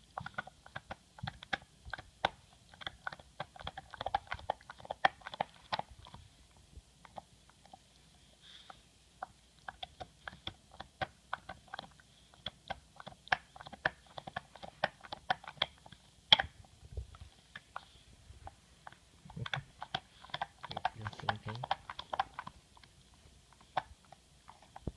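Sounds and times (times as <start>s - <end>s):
dog chewing a bone: 0.0s - 24.9s.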